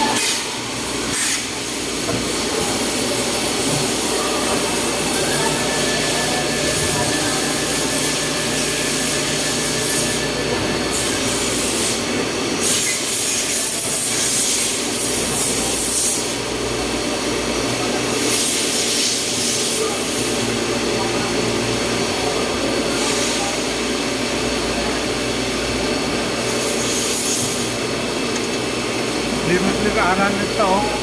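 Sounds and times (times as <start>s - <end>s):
milling machine hum: 0.0s - 18.8s, 20.0s - 31.0s.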